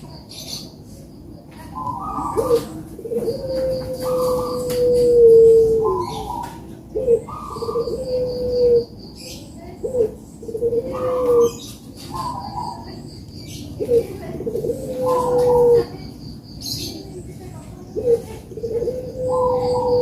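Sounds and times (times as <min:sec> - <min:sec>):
dove cooing: 0:01.6 - 0:20.0.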